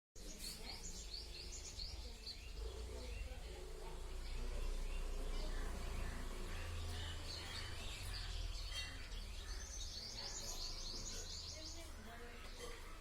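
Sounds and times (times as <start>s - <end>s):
small bird chirping and trilling: 0.2s - 13.0s.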